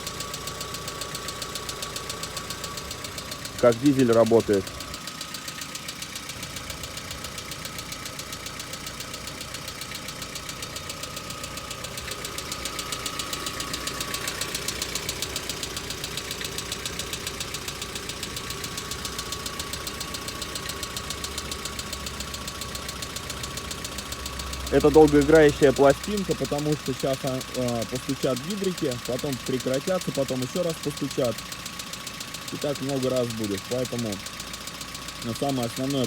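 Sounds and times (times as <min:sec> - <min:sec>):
car engine idling with lifter tapping: 0:00.0 - 0:36.0.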